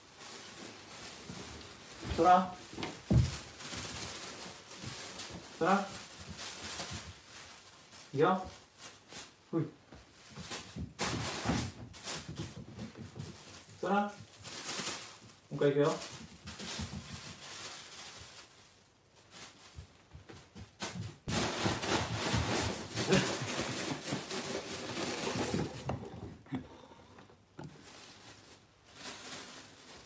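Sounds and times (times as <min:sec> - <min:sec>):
plastic bag rustling and crinkling: 0:00.0 - 0:30.0.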